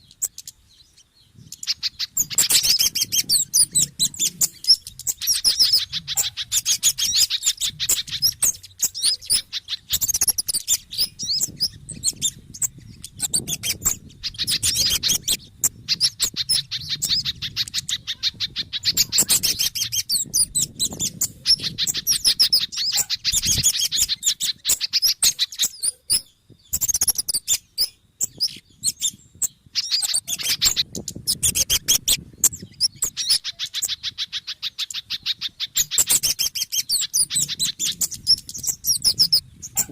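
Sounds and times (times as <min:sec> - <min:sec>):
rapid high bird chirps: 0:00.0 - 0:39.9.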